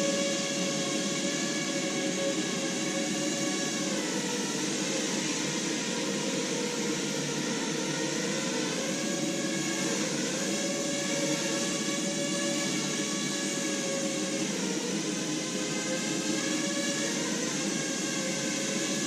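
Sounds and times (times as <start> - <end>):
drone propellers whirring: 0.0 - 19.0.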